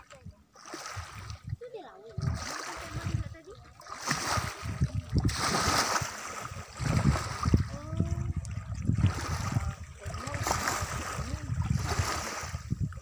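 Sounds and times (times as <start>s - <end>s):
small waves lapping: 0.0s - 13.0s
wind rumbling on microphone: 0.0s - 13.0s.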